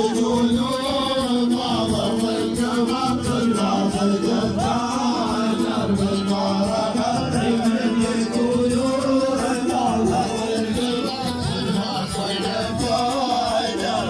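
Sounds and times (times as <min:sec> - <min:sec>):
voices singing: 0:00.0 - 0:14.0.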